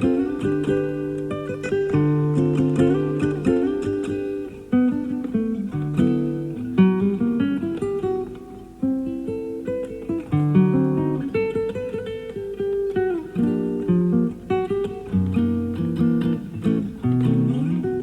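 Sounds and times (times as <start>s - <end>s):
classical guitar melody: 0.0s - 18.0s.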